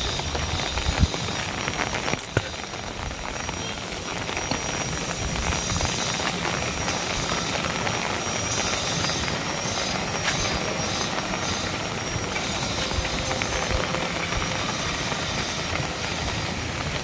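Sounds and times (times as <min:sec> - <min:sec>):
rain hissing: 0:00.0 - 0:17.0
wind buffeting microphone: 0:00.0 - 0:17.0.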